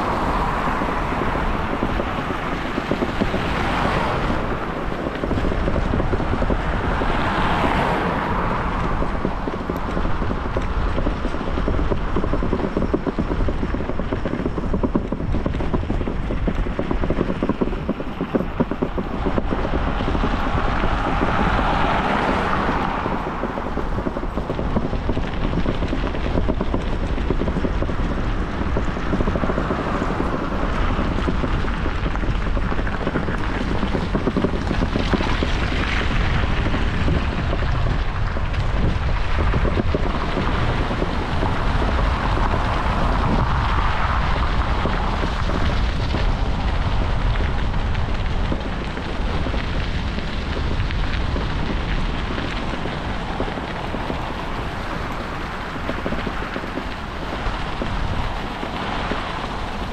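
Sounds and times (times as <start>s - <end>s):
bicycle tyre and road noise: 0.0s - 59.9s
wind buffeting microphone: 0.0s - 59.9s.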